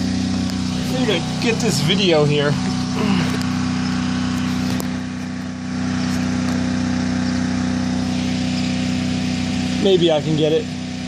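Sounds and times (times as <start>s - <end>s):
motor humming steadily: 0.0s - 11.0s.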